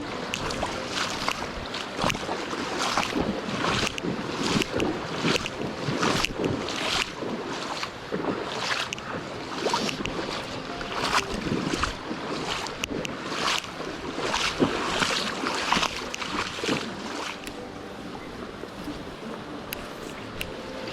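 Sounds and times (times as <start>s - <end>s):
splashing swishes: 0.0s - 20.9s
stream water rushing: 0.0s - 20.9s.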